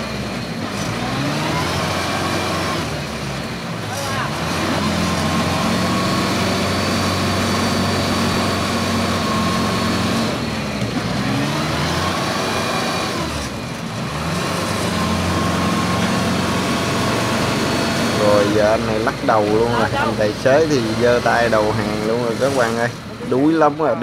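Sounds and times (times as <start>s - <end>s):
diesel engine running under load: 0.0s - 24.0s
steady whine: 0.0s - 24.0s.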